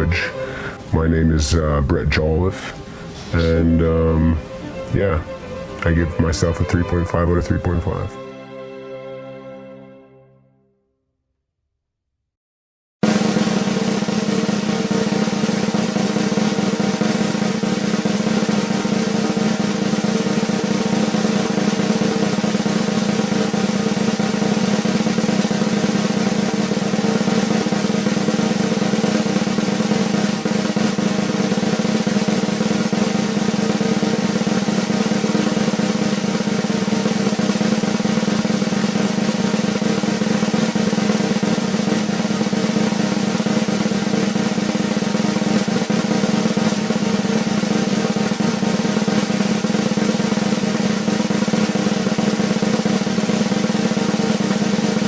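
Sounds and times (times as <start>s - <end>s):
snare drum roll: 0.0s - 8.3s, 13.0s - 55.0s.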